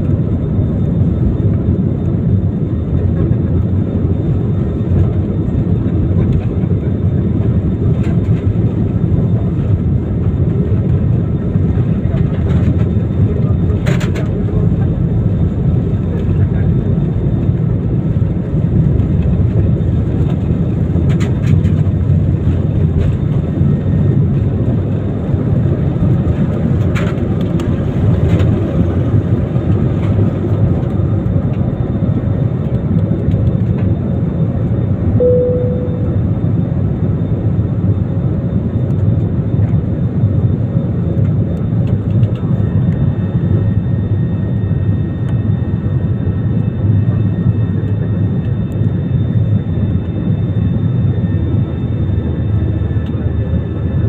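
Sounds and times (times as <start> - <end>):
jet engines rumbling at takeoff: 0.0 - 54.0.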